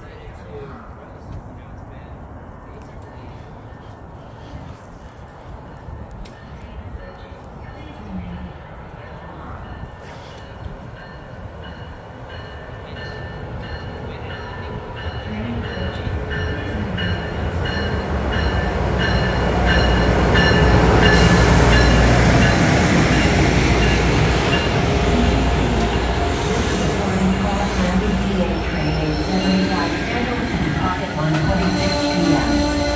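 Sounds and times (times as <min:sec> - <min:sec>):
electric train rolling past: 0:02.9 - 0:32.9.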